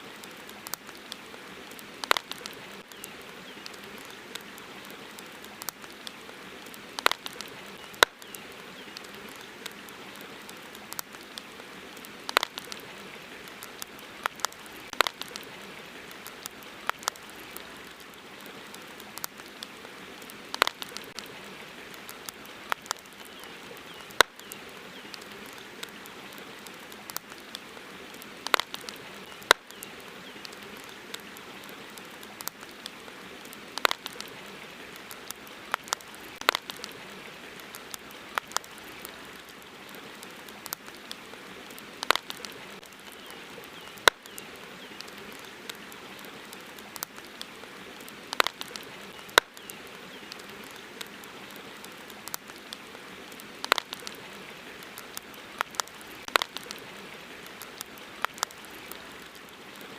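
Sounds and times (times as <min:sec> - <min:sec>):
campfire crackling and popping: 0:00.0 - 0:59.9
steady hiss: 0:00.0 - 0:59.9.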